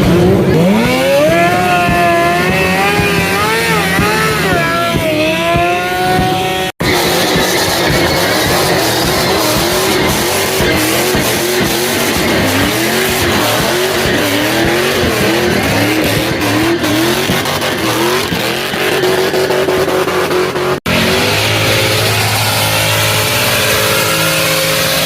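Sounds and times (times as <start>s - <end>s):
car engine noise: 0.0s - 25.0s
car tires squealing: 0.0s - 25.0s.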